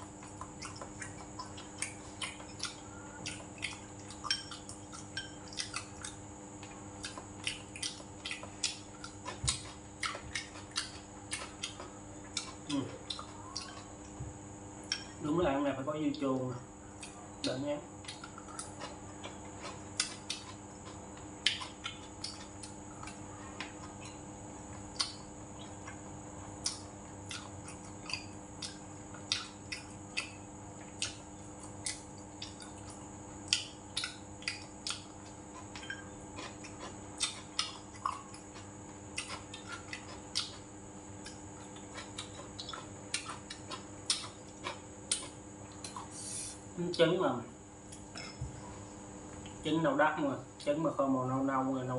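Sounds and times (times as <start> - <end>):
chewing: 0.0 - 15.2, 16.1 - 46.6
faint steady hum: 0.0 - 51.9.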